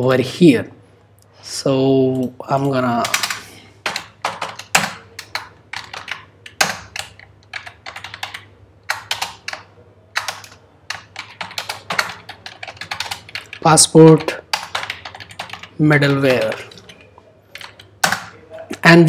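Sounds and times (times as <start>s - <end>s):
typing on computer keyboard: 2.2s - 18.4s.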